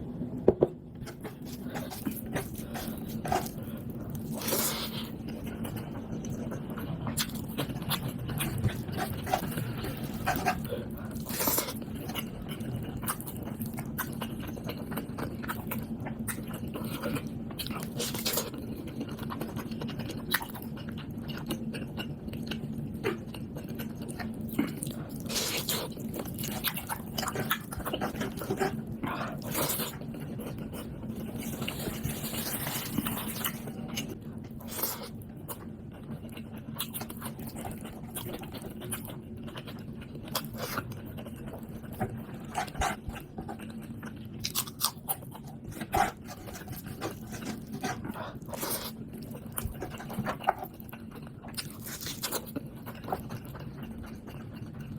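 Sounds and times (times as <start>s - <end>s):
steady low hum: 0.0s - 54.9s
chewing and biting meat: 1.0s - 54.9s.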